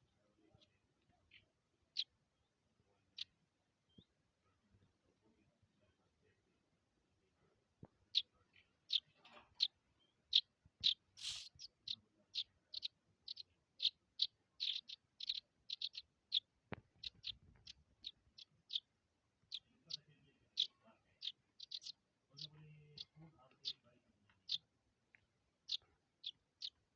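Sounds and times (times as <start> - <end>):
small bird chirping: 0.5 - 4.1, 8.0 - 26.9.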